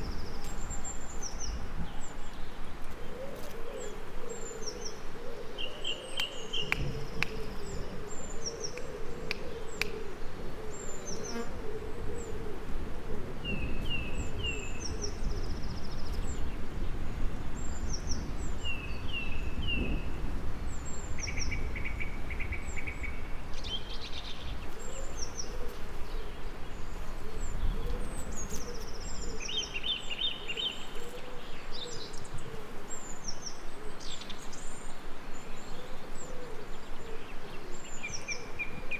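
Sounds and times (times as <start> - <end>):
songbirds singing and calling: 0.0 - 12.7, 13.3 - 38.9.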